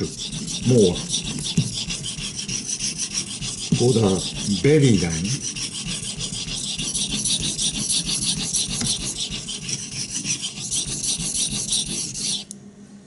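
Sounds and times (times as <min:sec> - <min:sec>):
knife scraping on whetstone: 0:00.0 - 0:12.5.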